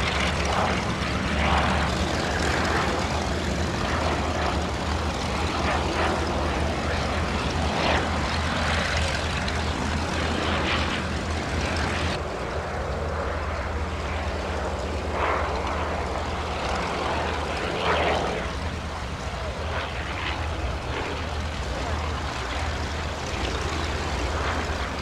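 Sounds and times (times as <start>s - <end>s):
propeller plane engine: 0.0s - 25.0s.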